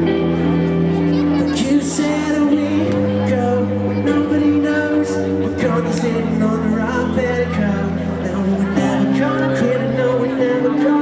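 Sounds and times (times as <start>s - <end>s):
live band playing chords: 0.0s - 11.0s
person singing: 0.0s - 11.0s.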